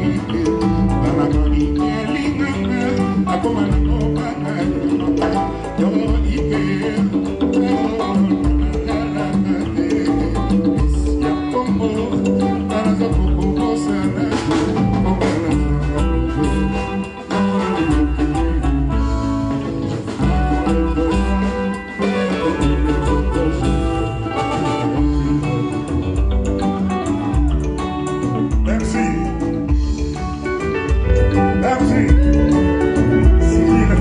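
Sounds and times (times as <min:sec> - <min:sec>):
electric guitars: 0:00.0 - 0:34.0
person singing: 0:00.0 - 0:34.0.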